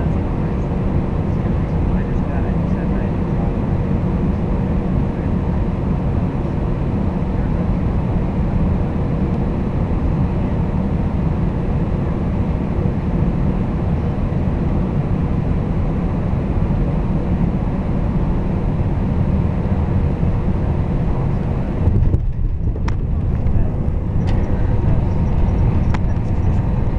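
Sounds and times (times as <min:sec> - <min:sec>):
airliner cabin engine noise: 0:00.0 - 0:26.9.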